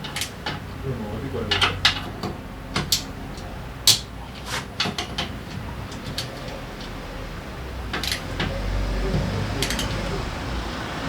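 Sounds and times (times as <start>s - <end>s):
sharp clicks and light knocks: 0.0s - 10.3s.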